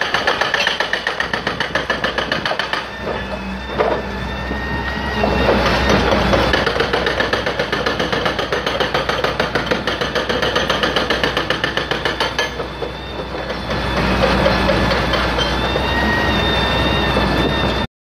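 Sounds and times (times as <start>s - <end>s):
diesel engine running under load: 1.1s - 17.9s.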